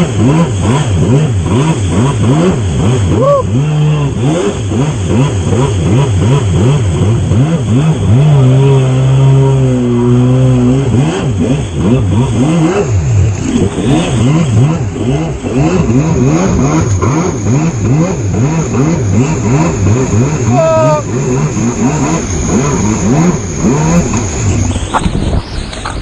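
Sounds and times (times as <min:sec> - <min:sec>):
jet ski engine revving: 0:00.0 - 0:26.0.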